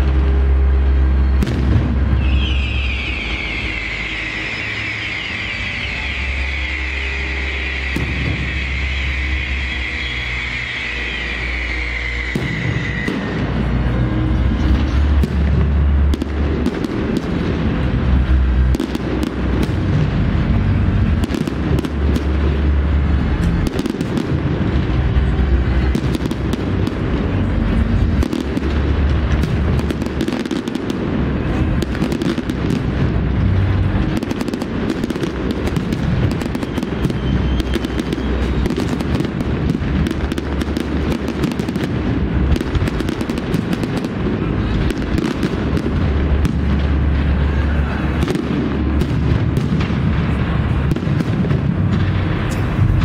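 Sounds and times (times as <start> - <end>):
deep rumble of booming shells: 0.0 - 3.0, 12.3 - 53.0
fireworks bangs and crackles: 0.0 - 53.0.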